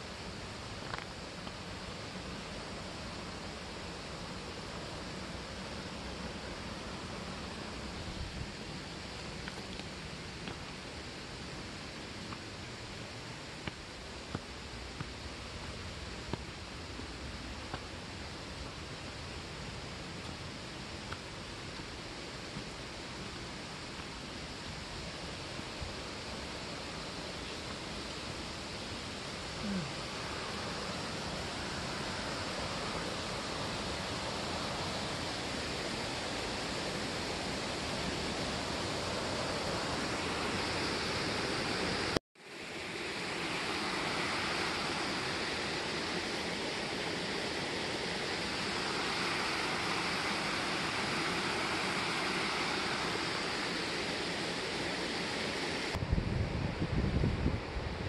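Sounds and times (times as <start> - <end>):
stream rushing over boulders: 0.0 - 58.0.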